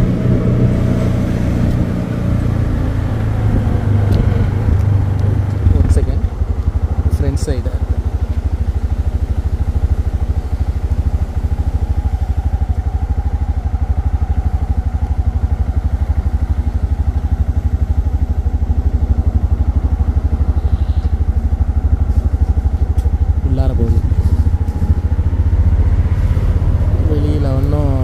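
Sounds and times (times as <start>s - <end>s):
auto-rickshaw engine running: 0.0s - 28.0s.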